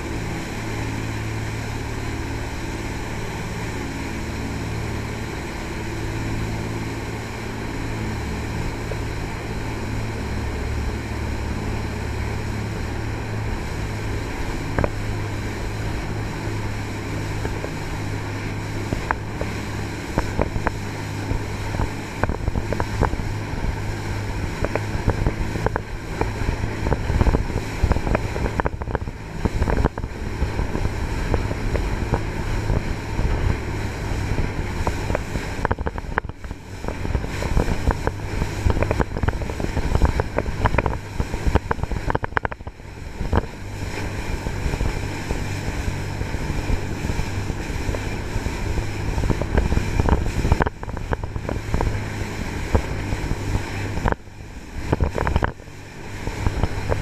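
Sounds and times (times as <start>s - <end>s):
boat engines droning: 0.0s - 57.0s
wind noise on microphone: 0.0s - 57.0s.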